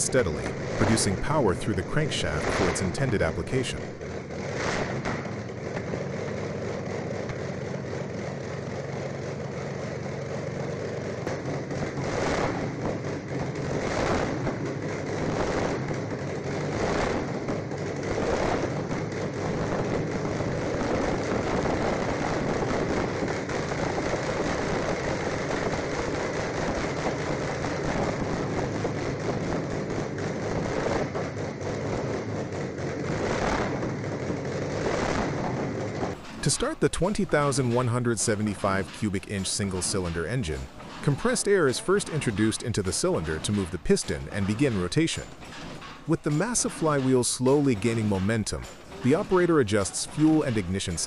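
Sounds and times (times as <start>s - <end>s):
large car engine running loudly: 0.0s - 51.0s.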